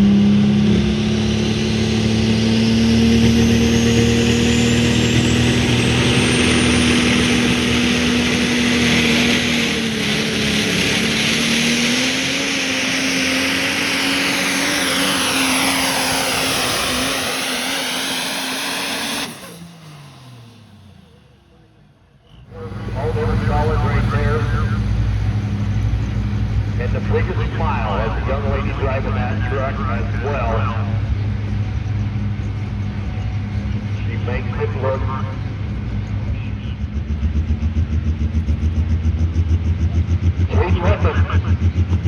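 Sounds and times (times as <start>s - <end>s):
truck engine revving at full throttle: 0.0s - 42.0s.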